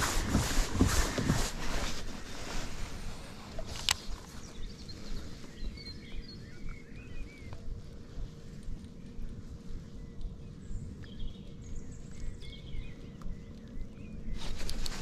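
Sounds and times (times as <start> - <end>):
bird calling: 0.0 - 15.0
low background rumble: 0.0 - 15.0.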